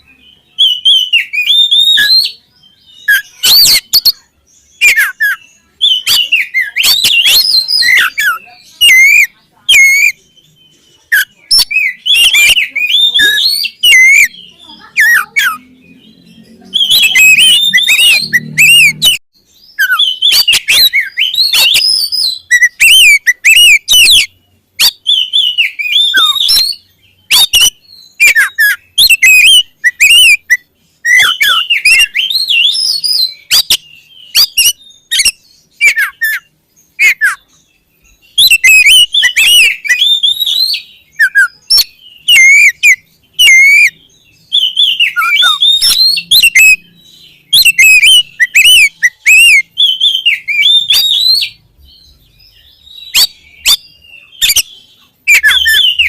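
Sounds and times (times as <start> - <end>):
bird singing whistles and chirps: 0.0 - 56.0.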